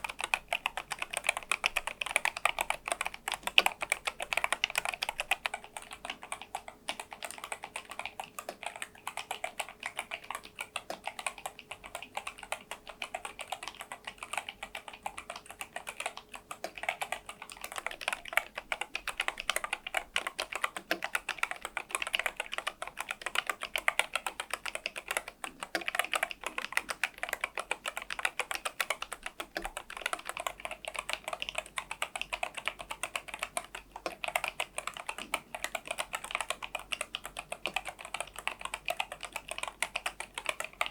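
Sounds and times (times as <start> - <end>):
fast typing on a keyboard: 0.0 - 40.9.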